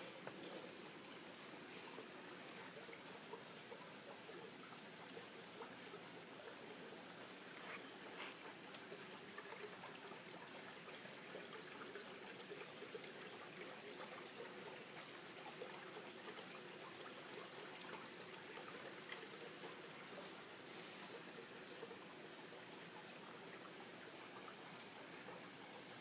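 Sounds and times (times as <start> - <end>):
water trickling: 0.0 - 26.0
water dripping: 0.1 - 26.0.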